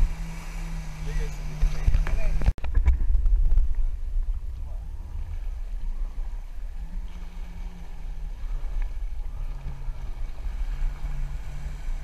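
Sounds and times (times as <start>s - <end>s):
jet ski engine running: 0.0s - 12.0s
wind buffeting microphone: 0.0s - 12.0s.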